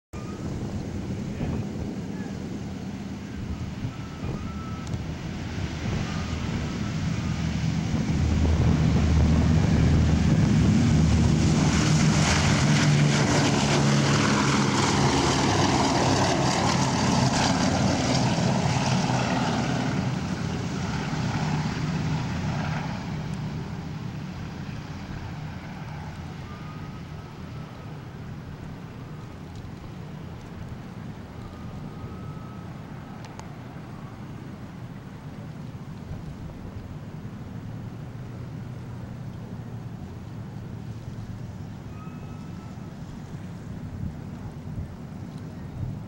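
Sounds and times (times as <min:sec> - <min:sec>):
propeller plane engines droning: 0:00.2 - 0:46.0.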